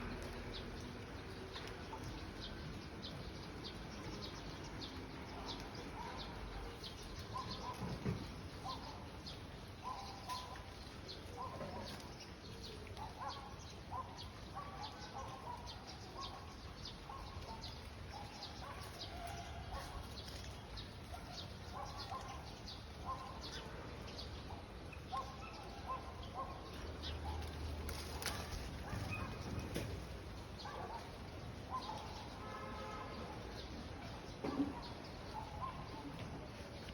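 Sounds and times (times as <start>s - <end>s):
birds chirping and calling: 0.0s - 32.5s, 33.4s - 36.9s.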